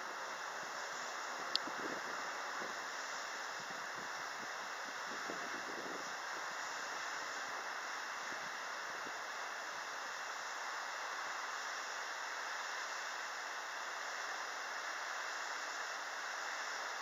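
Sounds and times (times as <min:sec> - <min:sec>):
steady recording hiss: 0:00.0 - 0:17.0.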